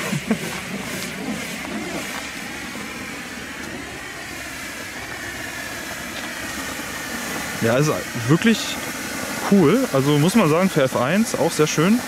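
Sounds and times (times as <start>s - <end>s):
flare burning with a hiss: 0.0s - 12.0s.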